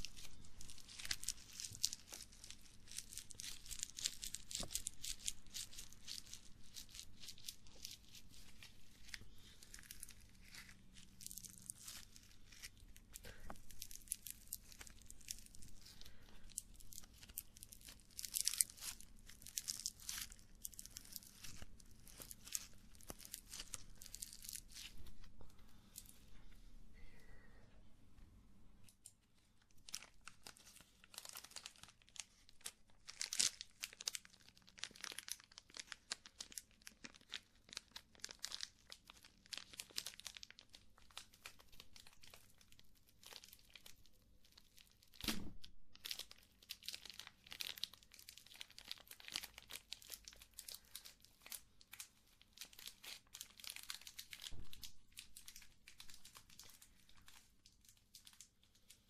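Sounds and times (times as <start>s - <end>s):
crinkling and crackling: 0.0s - 59.0s.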